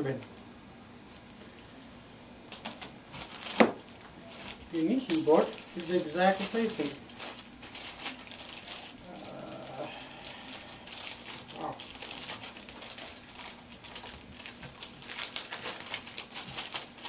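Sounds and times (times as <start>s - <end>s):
plastic wrapper crinkling: 2.5s - 17.0s.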